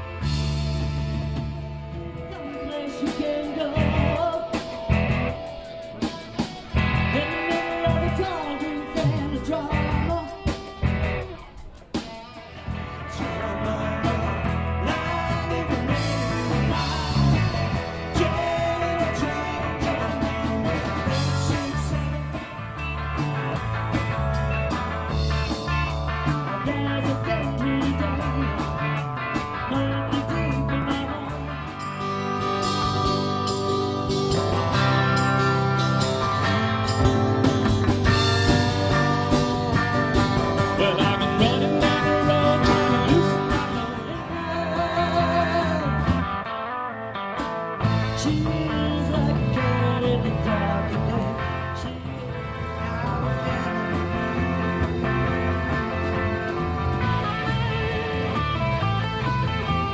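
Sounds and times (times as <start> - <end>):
electric guitar: 0.0 - 59.9
live rock band playing: 0.0 - 59.9.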